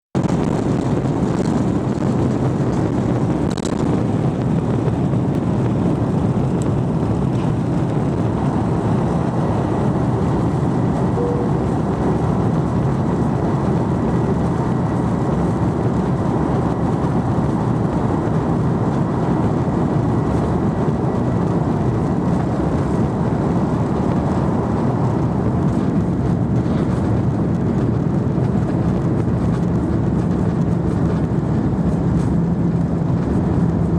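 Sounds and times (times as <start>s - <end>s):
jet engines roaring during takeoff: 0.2s - 33.9s.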